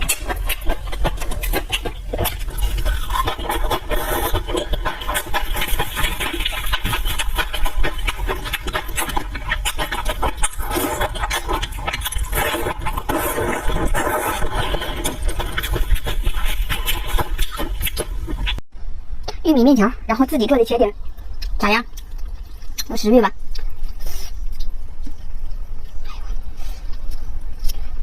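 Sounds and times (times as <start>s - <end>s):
wet chewing: 0.0s - 18.6s, 21.0s - 28.0s.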